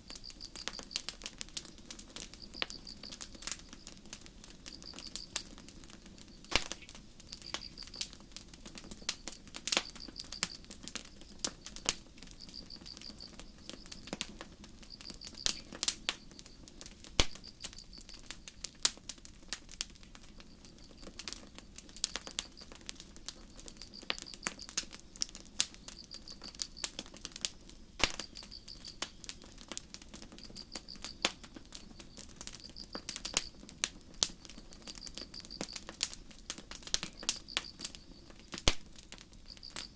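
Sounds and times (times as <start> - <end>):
crickets chirping: 0.0 - 18.6, 20.0 - 33.7, 34.3 - 36.0, 36.8 - 39.9
campfire crackling and popping: 0.0 - 39.9.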